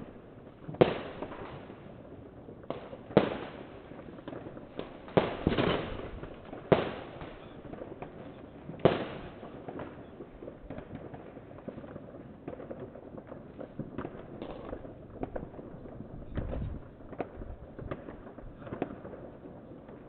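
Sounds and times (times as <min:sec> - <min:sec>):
firecracker cracks and pops: 0:00.0 - 0:20.0.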